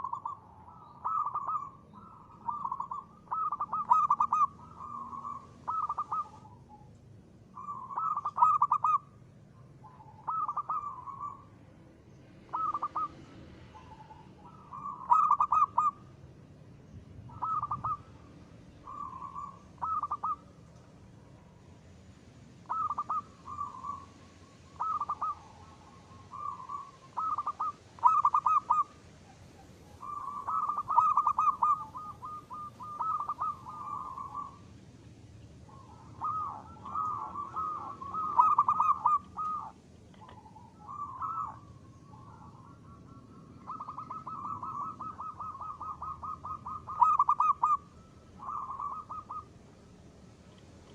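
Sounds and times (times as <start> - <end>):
dove cooing in trilling phrases: 0.0 - 50.9.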